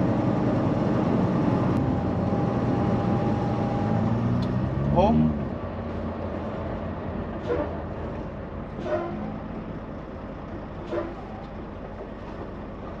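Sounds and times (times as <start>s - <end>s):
truck engine and road hum: 0.0s - 13.0s.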